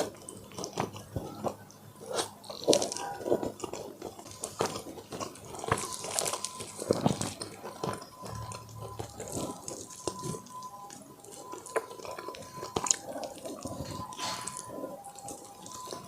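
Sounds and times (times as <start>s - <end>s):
wet chewing and lip smacking: 0.0s - 16.0s.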